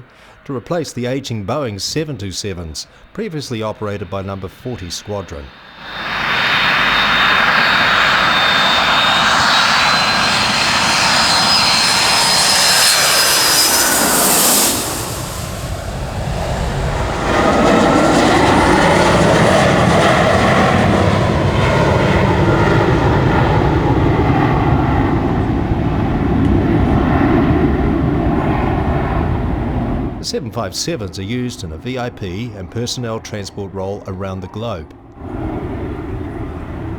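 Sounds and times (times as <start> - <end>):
airliner flying past low: 2.2 - 36.9.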